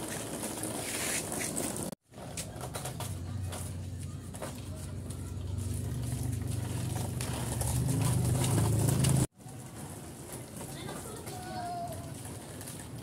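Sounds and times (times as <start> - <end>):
plastic wheels rolling on concrete: 0.0 - 13.0.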